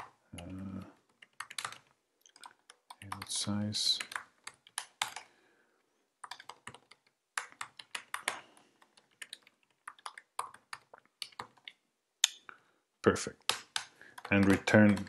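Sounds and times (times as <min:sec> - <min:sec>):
typing on computer keyboard: 0:00.0 - 0:05.3, 0:06.2 - 0:11.8, 0:13.4 - 0:15.0.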